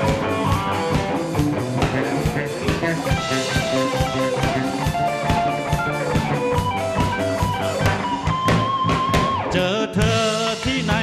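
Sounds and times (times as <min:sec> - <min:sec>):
bass guitar: 0:00.0 - 0:11.0
drum kit: 0:00.0 - 0:11.0
electric guitar lead: 0:00.0 - 0:11.0.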